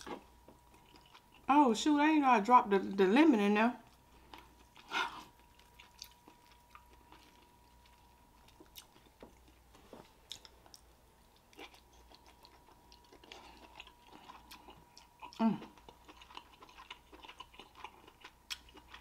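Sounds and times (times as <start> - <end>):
person chewing crab meat: 0.0 - 1.5, 3.8 - 19.0
faint high-pitched hum: 0.0 - 19.0.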